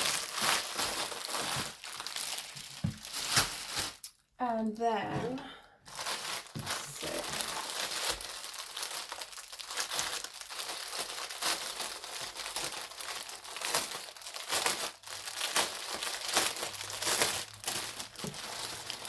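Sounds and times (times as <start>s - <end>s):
plastic packaging crinkling: 0.0s - 4.3s, 5.9s - 19.0s.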